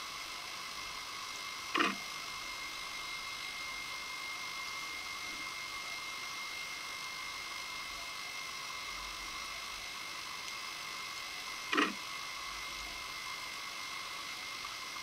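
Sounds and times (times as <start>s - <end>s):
electronic hiss with thin whine: 0.0s - 15.0s.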